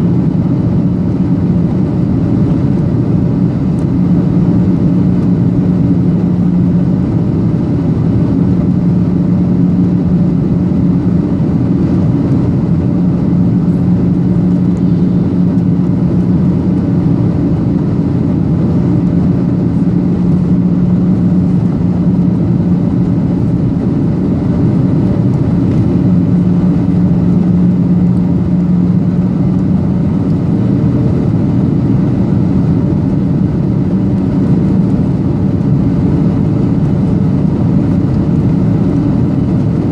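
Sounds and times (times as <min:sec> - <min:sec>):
airflow rushing over fuselage: 0:00.0 - 0:39.9
jet engines humming: 0:00.0 - 0:39.9.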